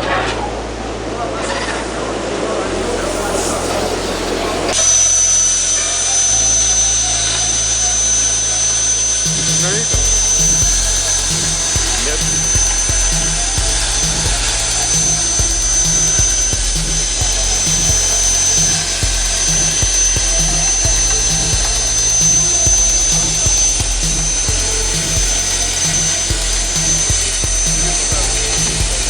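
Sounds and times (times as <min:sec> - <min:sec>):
high-pitched whine: 0:00.0 - 0:29.0
background music with steady beat: 0:02.7 - 0:06.9, 0:08.8 - 0:29.0.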